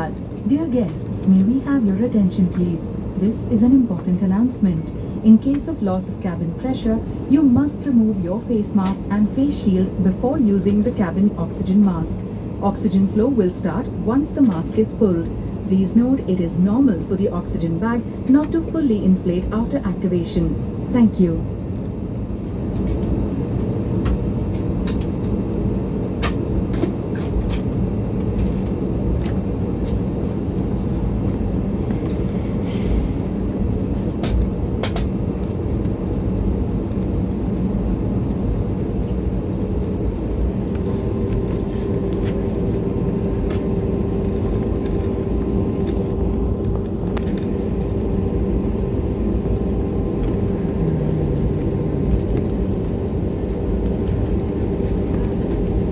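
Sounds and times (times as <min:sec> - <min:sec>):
airliner engine rumble: 0:00.0 - 0:55.9
steady humming tone: 0:00.0 - 0:55.9.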